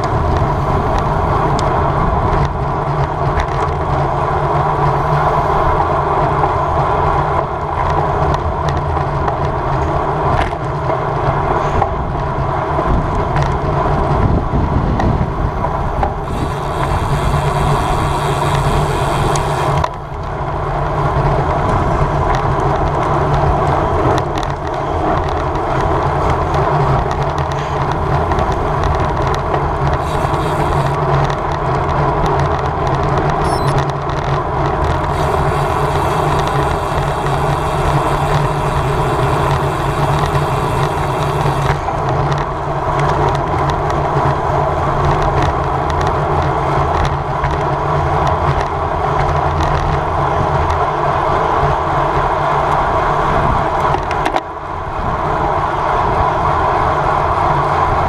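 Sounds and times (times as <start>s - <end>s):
tyre and road noise: 0.0s - 58.0s
wind rushing on microphone: 0.0s - 58.0s.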